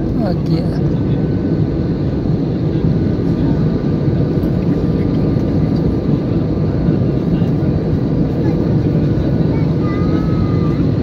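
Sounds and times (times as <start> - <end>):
jet cabin engine drone: 0.0 - 11.0.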